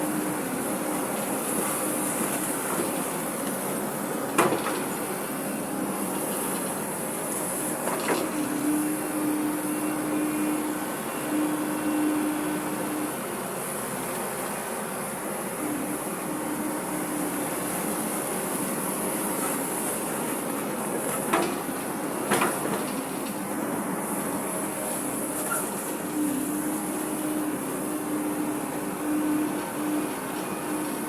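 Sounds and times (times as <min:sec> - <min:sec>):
excavator running: 0:00.0 - 0:31.0.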